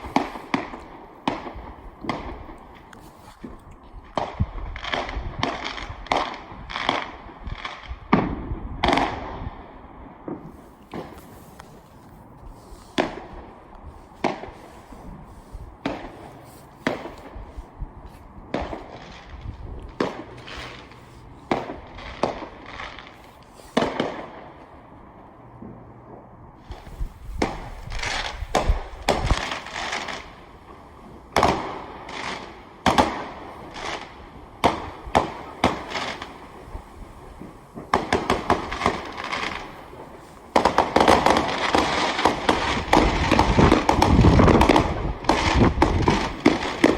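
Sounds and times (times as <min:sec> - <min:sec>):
fireworks banging: 0:00.0 - 0:46.9
fireworks crackling: 0:00.0 - 0:46.9.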